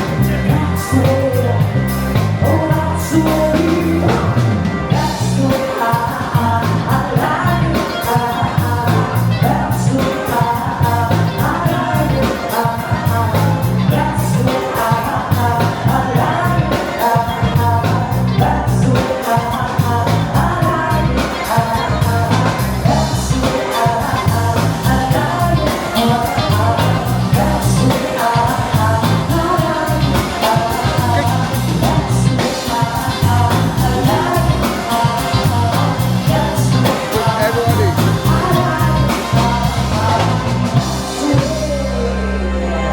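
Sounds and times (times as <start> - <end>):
full band with driving beat: 0.0 - 42.9
person singing: 0.0 - 42.9.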